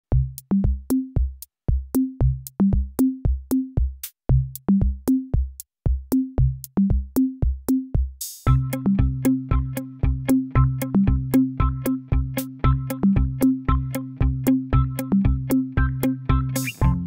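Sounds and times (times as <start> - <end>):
electronic music with drum-machine beat: 0.1 - 17.0.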